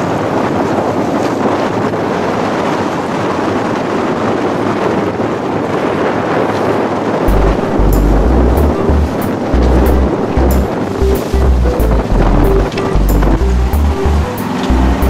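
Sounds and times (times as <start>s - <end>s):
water and waves rushing: 0.0s - 15.0s
wind buffeting microphone: 0.0s - 15.0s.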